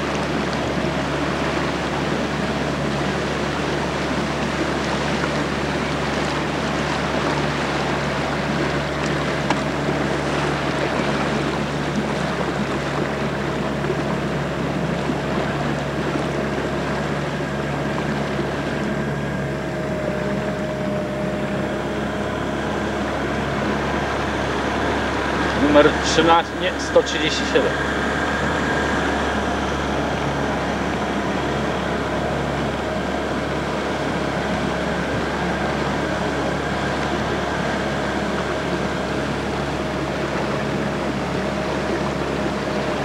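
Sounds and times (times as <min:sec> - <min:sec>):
motorboat engine running: 0:00.0 - 0:43.0
water rushing: 0:00.0 - 0:43.0.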